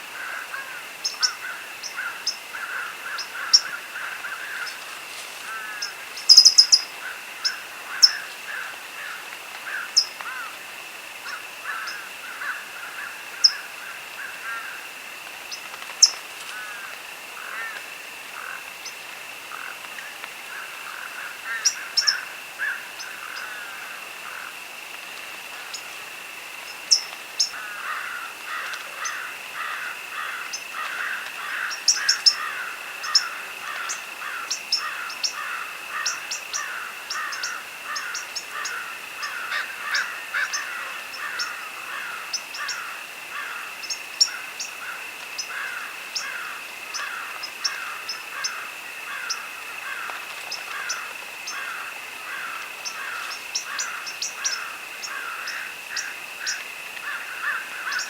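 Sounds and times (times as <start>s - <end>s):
crickets trilling: 0.0s - 58.0s
birds chirping and warbling: 0.2s - 10.5s, 15.5s - 17.8s, 20.5s - 24.5s, 26.6s - 58.0s.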